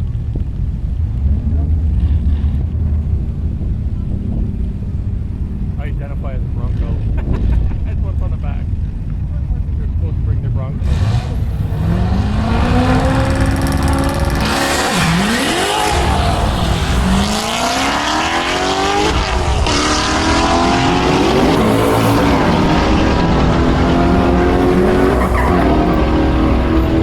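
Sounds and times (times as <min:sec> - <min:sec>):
cars accelerating hard: 0:01.0 - 0:27.0.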